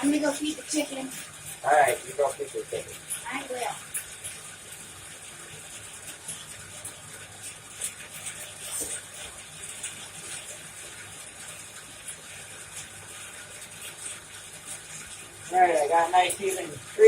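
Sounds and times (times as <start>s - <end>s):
burning coal crackling: 0.0s - 17.0s.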